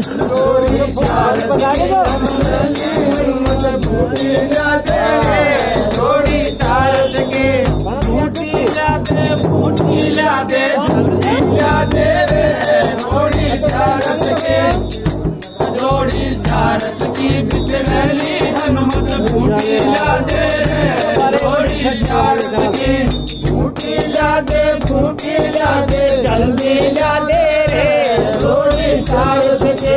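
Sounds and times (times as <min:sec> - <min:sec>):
frame drum beat: 0:00.0 - 0:29.9
men singing in chorus: 0:00.0 - 0:29.9
small metal hand cymbals: 0:00.0 - 0:29.9.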